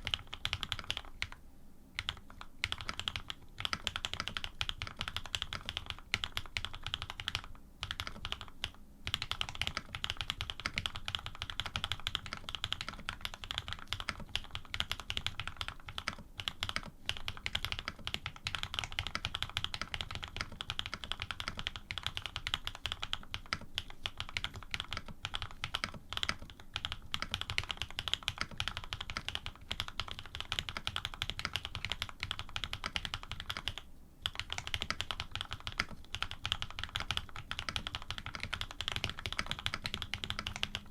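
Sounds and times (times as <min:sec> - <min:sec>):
fast typing on mechanical keyboard: 0:00.0 - 0:01.4, 0:02.0 - 0:40.9.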